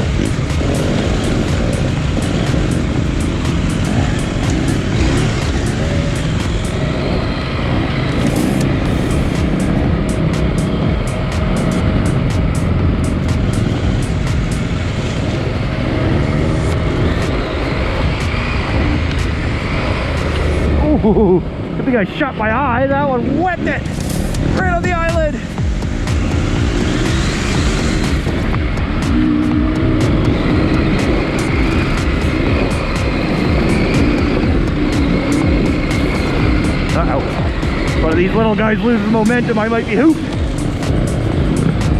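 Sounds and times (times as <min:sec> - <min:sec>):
sharp ticks: 0:00.0 - 0:20.8, 0:23.6 - 0:41.9
motorcycle engine revving: 0:00.0 - 0:41.9
tyre noise: 0:00.0 - 0:41.9.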